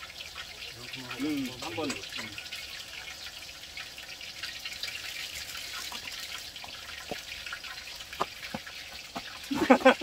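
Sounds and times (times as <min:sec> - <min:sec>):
deep-frying sizzle with crackles: 0:00.0 - 0:10.0.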